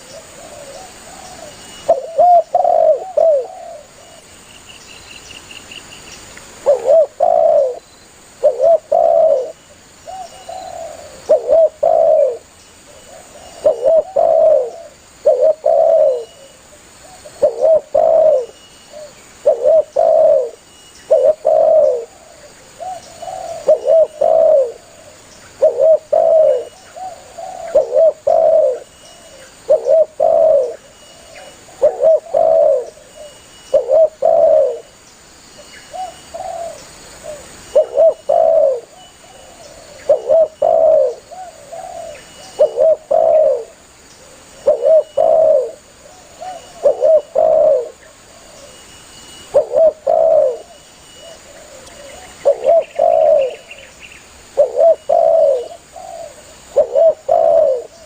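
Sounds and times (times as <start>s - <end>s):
dove cooing: 0.0s - 4.2s, 6.6s - 7.8s, 8.4s - 34.9s, 35.9s - 58.0s.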